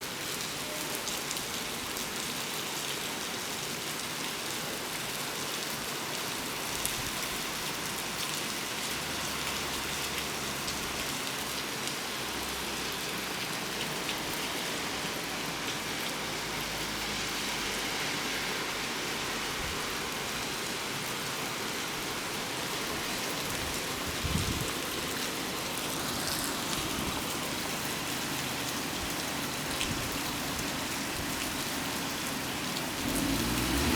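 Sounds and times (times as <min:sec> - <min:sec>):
rain pattering on surfaces: 0:00.0 - 0:33.9.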